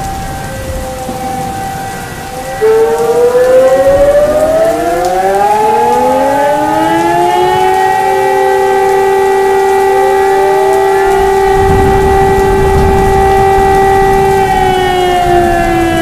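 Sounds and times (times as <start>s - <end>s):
air raid sirens winding up: 0.0s - 16.0s
rain hiss: 0.0s - 16.0s.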